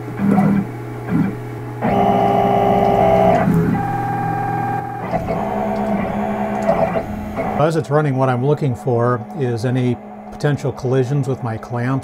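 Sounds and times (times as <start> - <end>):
low hum: 0.0 - 12.0
stepper motors whining: 0.2 - 12.0.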